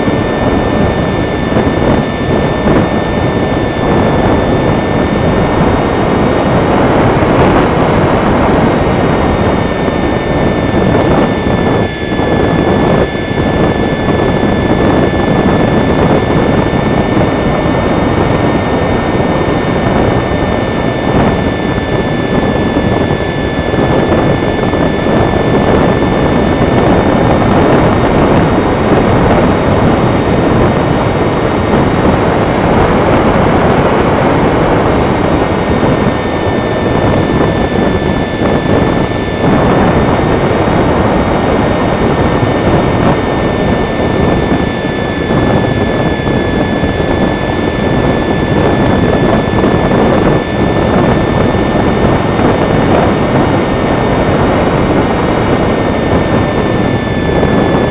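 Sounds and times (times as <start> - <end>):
electric motor whining: 0.0 - 57.9
wind noise on microphone: 0.0 - 57.9.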